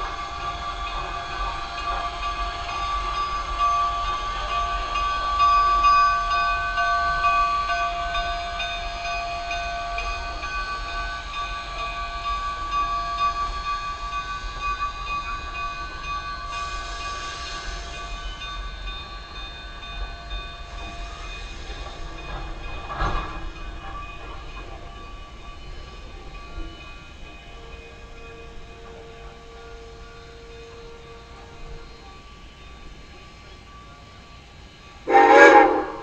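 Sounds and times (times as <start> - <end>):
train rolling slowly: 0.0 - 36.0.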